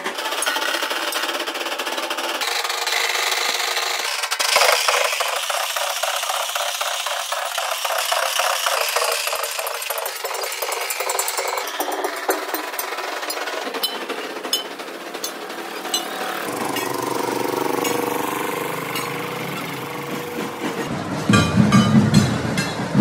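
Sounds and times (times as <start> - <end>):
rapid drumming: 0.0 - 23.0.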